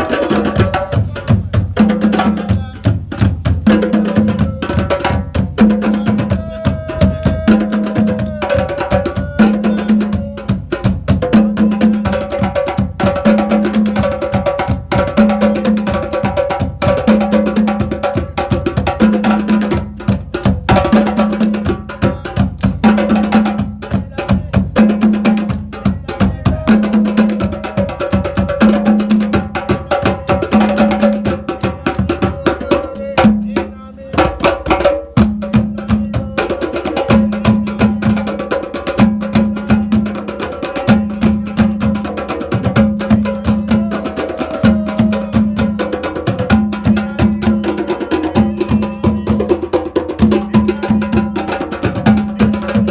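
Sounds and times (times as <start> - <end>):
hand drumming: 0.0 - 52.9.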